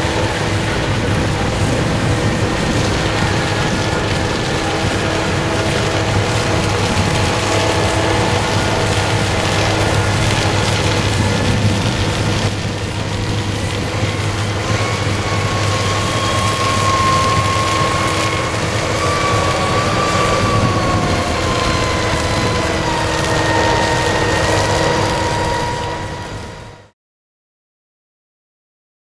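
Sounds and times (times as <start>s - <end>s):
harvester and tractor droning: 0.0s - 26.9s
high machine whine: 0.0s - 27.0s.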